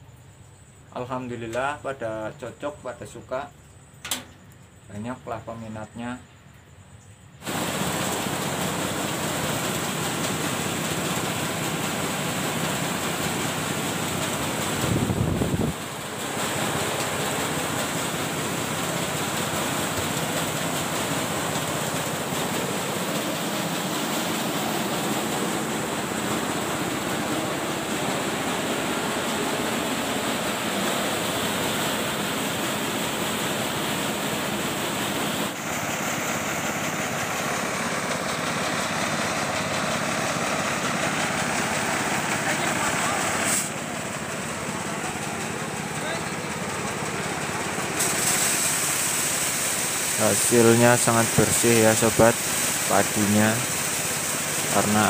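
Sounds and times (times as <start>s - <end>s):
rice thresher running: 7.4s - 55.0s.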